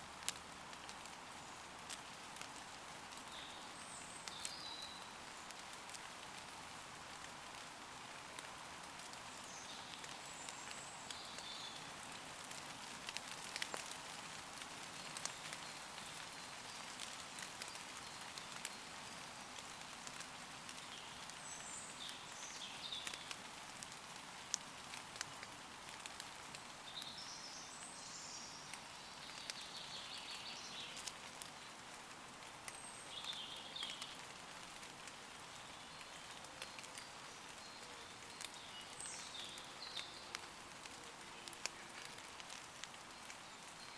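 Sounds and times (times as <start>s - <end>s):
rain falling on leaves: 0.0s - 43.9s.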